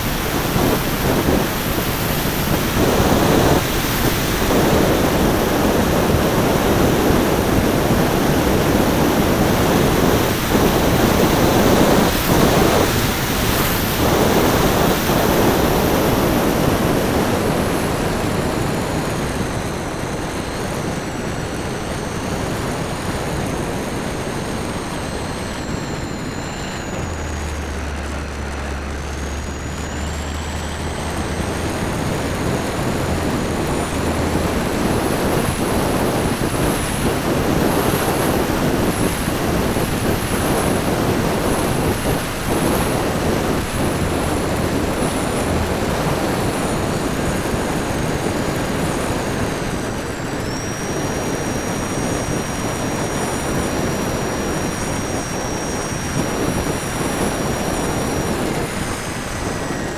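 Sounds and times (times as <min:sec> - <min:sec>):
propeller motors whining: 0:00.0 - 0:59.9
wind rushing over camera: 0:00.0 - 0:59.9.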